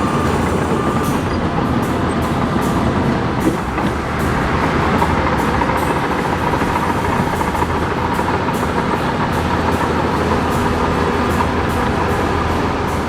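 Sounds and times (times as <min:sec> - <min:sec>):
bulldozer diesel engine running: 0:00.0 - 0:13.0
steel tracks clattering: 0:00.0 - 0:13.0.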